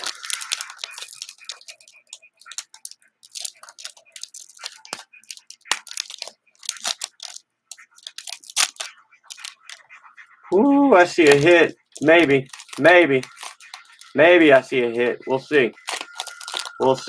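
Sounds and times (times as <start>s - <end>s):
plastic wrapper crinkling and tearing: 0.0s - 9.9s, 11.0s - 14.2s, 15.7s - 17.0s.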